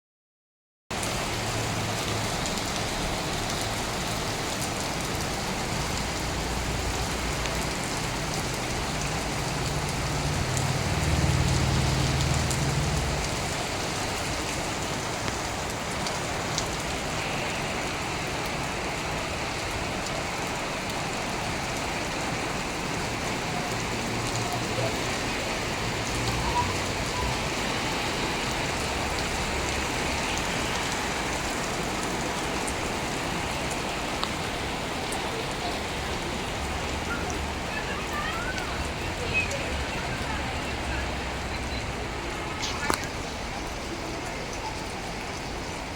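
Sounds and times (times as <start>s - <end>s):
rain pattering: 0.9s - 45.9s.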